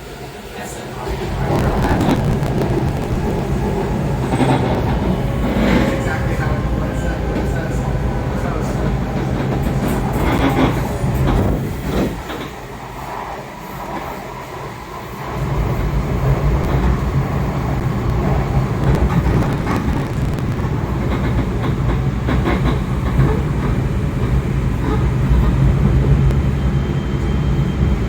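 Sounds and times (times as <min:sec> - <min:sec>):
subway wheels rumbling on track: 0:00.0 - 0:28.0.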